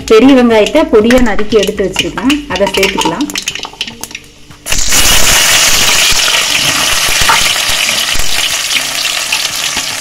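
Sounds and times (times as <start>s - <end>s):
onions sizzling in hot oil: 1.2s - 10.0s.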